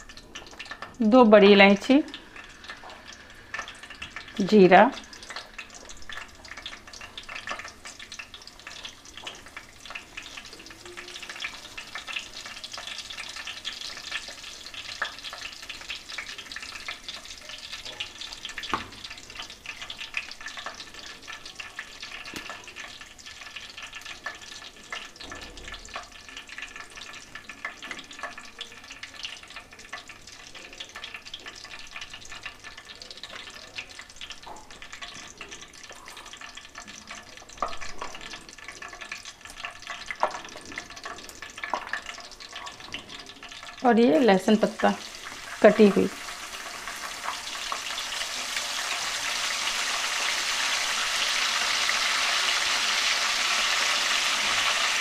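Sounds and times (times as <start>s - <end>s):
spices sizzling in hot fat: 0.0s - 55.0s.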